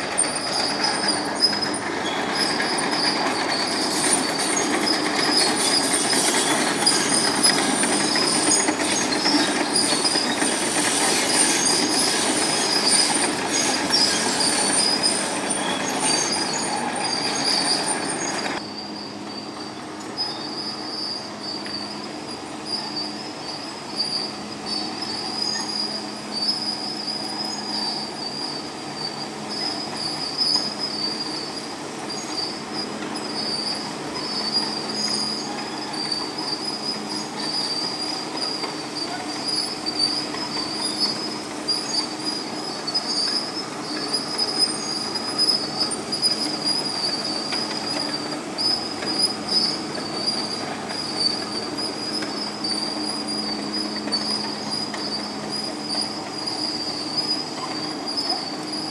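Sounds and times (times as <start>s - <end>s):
metal tracks squealing: 0.0s - 58.9s.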